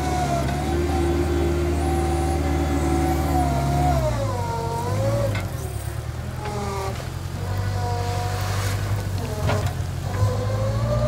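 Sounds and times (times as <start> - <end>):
loader engine under load: 0.0 - 11.0.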